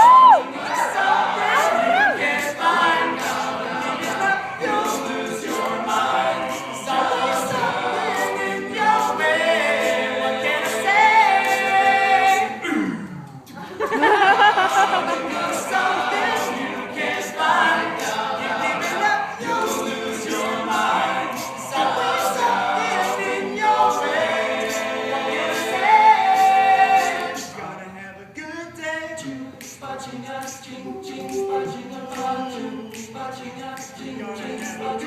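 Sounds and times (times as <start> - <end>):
male group singing in harmony: 0.3 - 12.9, 13.6 - 35.0.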